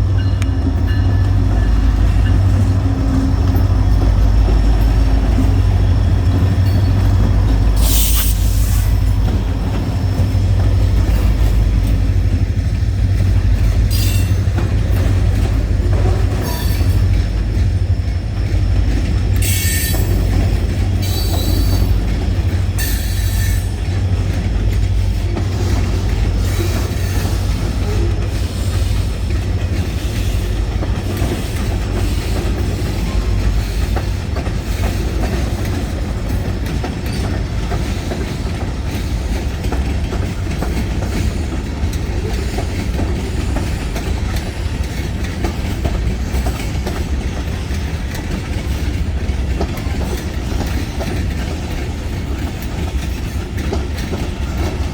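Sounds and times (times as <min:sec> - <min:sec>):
freight train rumbling: 0:00.0 - 0:54.9
wheels clicking over rail joints: 0:00.1 - 0:54.9.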